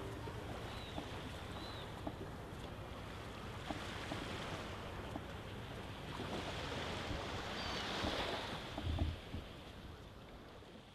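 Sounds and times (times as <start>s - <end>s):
small waves washing on sand: 0.0s - 10.9s
wind: 0.0s - 10.9s.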